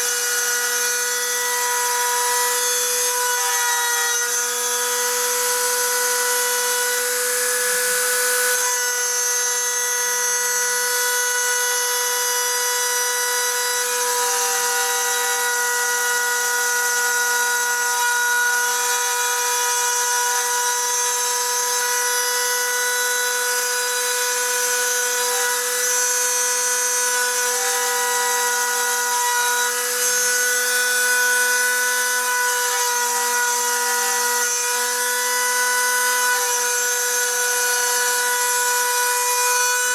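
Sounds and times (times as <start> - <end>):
rotary tool high-pitched whine: 0.0 - 39.9.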